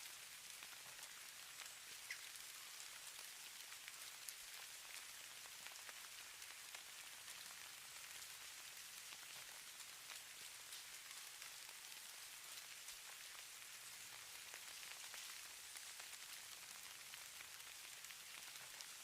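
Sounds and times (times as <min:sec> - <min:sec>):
hiss of falling snow: 0:00.0 - 0:19.0
light ticks of ice pellets: 0:00.0 - 0:19.0.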